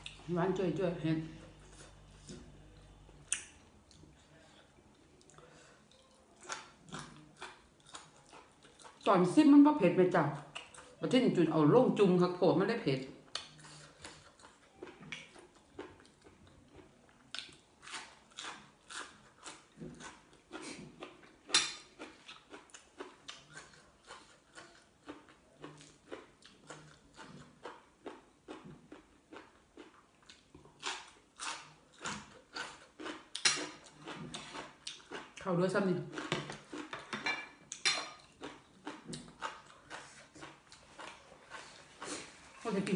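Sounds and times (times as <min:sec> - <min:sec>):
person chewing crunchy vegetables: 0:00.0 - 0:00.3, 0:01.3 - 0:09.1, 0:10.3 - 0:11.0, 0:13.2 - 0:42.7.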